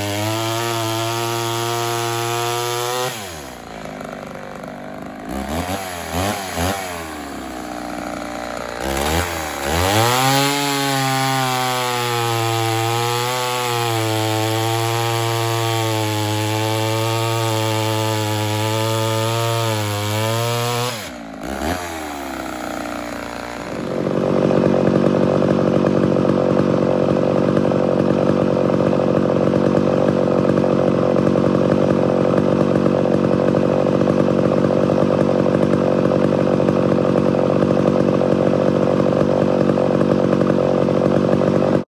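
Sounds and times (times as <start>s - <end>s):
chainsaw engine revving: 0.0s - 41.9s
rough loud chainsaw: 0.0s - 41.9s.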